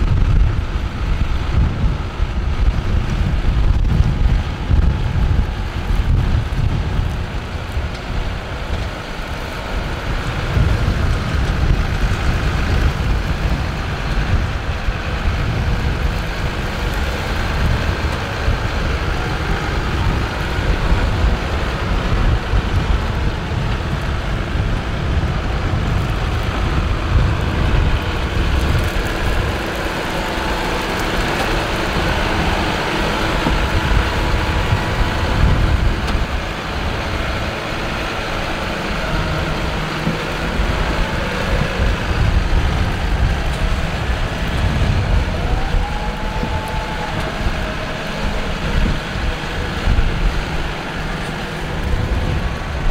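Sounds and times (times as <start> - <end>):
tractor engine running: 0.0 - 52.9
wind gusting on microphone: 0.0 - 52.9.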